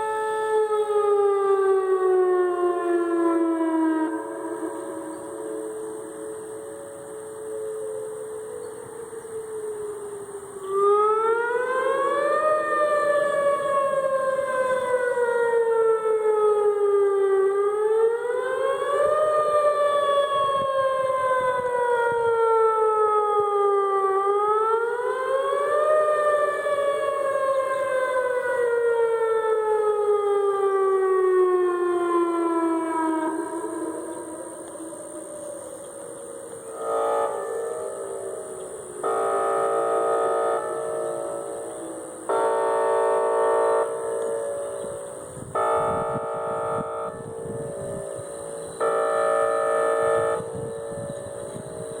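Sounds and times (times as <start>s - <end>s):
warning siren rising and falling: 0.0s - 52.0s.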